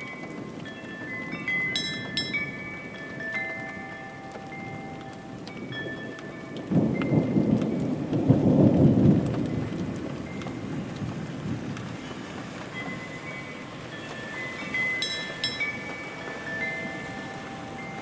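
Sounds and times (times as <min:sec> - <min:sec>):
steady rain: 0:00.0 - 0:18.0
thunder rumbling: 0:00.0 - 0:18.0.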